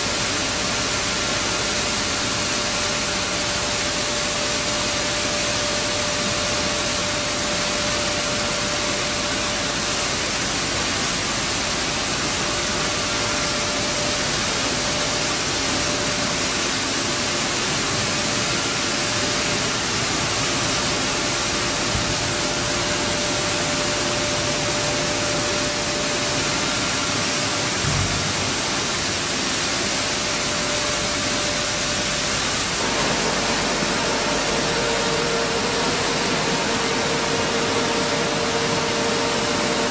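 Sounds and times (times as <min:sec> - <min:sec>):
constant machine whine: 0:00.0 - 0:39.9
mill machinery hissing: 0:00.0 - 0:39.9.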